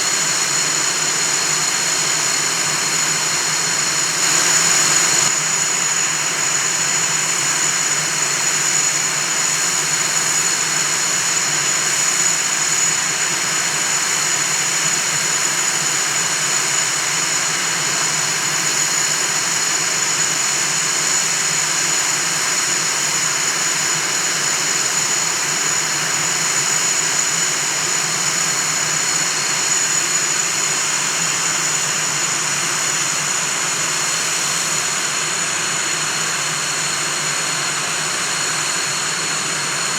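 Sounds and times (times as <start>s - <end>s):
jet engines rushing and whining: 0.0s - 39.9s.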